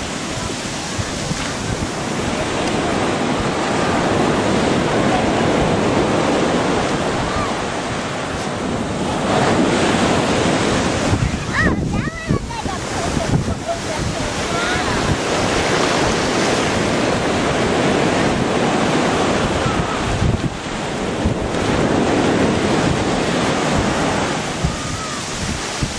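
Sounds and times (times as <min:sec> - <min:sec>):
surf washing on beach: 0:00.0 - 0:25.9
wind buffeting microphone: 0:00.0 - 0:25.9.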